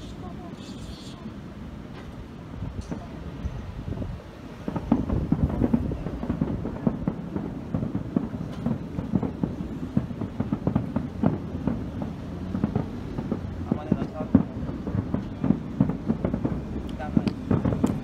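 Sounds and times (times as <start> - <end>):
fireworks bangs and cracks: 1.6 - 18.0.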